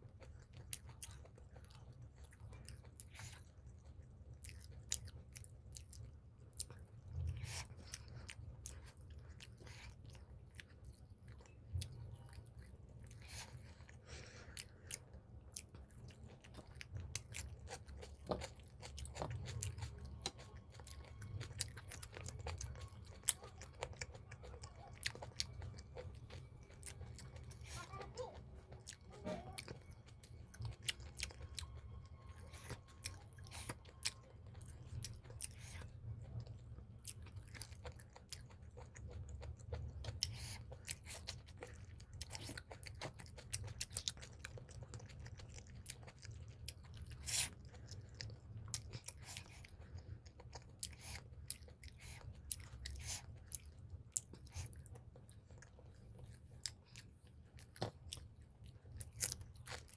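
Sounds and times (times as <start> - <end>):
close chewing with mouth clicks: 0.0 - 59.9.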